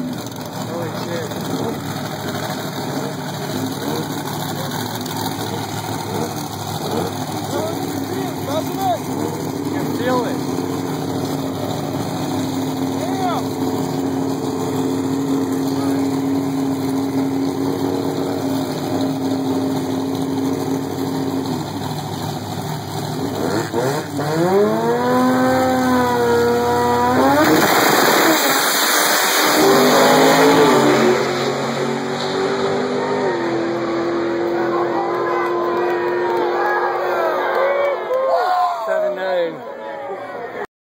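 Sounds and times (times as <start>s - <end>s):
engine revving: 0.0s - 37.0s
car engines idling: 0.0s - 37.8s
full-throttle car launch: 0.1s - 36.5s.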